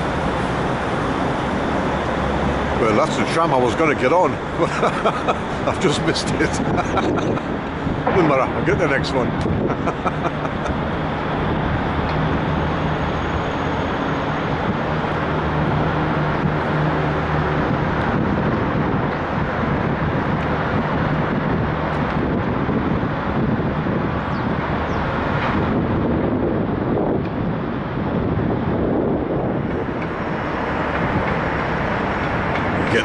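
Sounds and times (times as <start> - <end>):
low engine hum: 0.0 - 33.0
traffic noise: 0.0 - 33.0.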